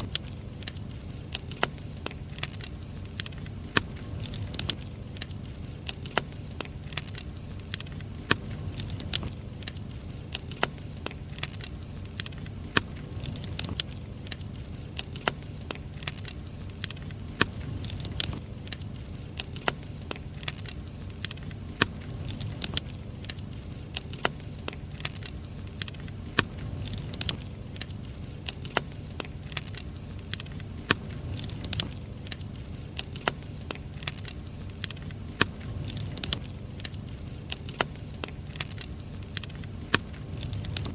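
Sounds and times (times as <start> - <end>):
firewood crackling and popping: 0.0 - 40.9
low rumble of flames: 0.0 - 40.9.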